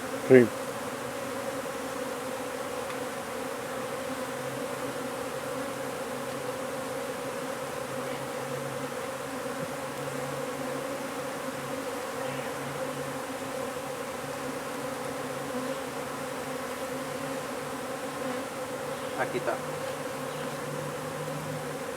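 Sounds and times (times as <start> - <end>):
honey bees buzzing: 0.0 - 21.9.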